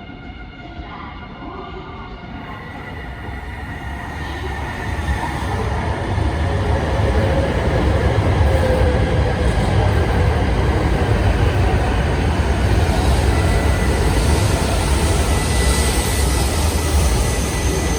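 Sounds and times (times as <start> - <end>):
train rumble: 2.3 - 17.9.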